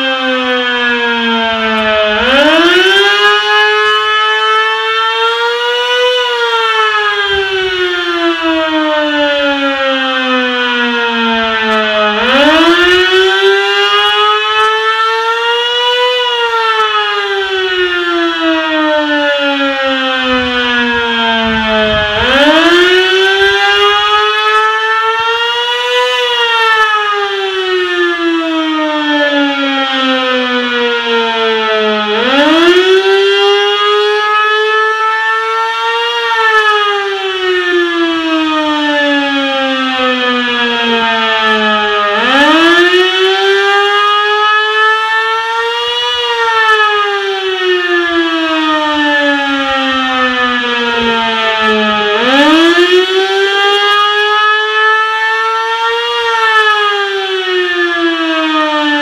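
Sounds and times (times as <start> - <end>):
mechanical siren wailing: 0.0 - 59.0.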